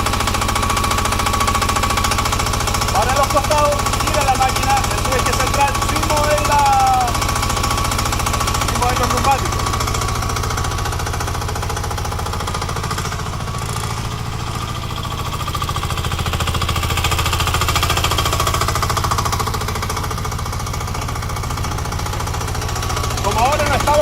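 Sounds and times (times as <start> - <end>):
excavator engine pounding: 0.0 - 24.0.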